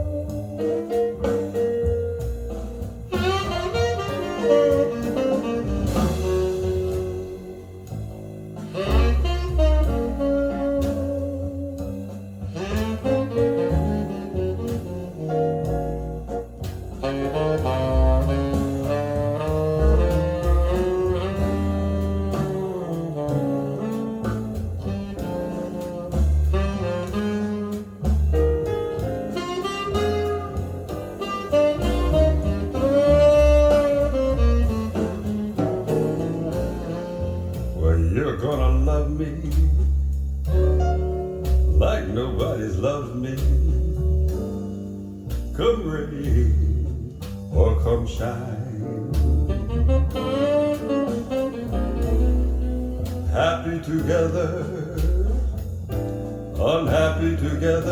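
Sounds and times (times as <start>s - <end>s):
jazz band playing instrumental: 0.0s - 57.9s.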